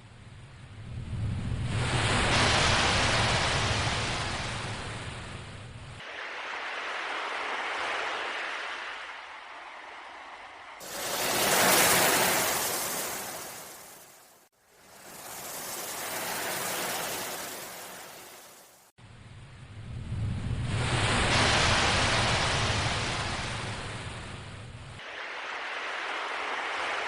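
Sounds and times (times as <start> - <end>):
sea waves washing in: 0.8 - 19.0, 20.2 - 27.0.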